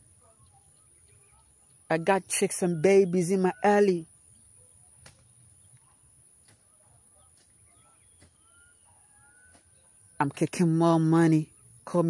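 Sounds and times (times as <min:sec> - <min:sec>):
faint bird chirps: 0:00.0 - 0:10.3.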